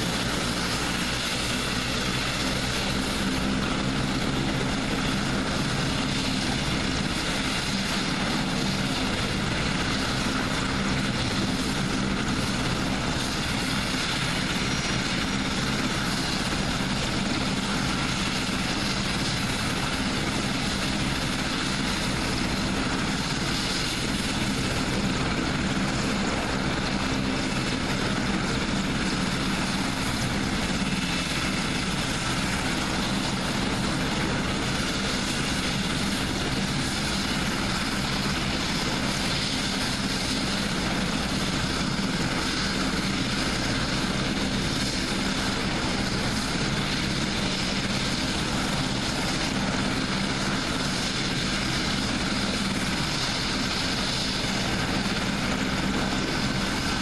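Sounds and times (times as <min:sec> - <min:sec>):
helicopter engines and rotors: 0:00.0 - 0:57.0.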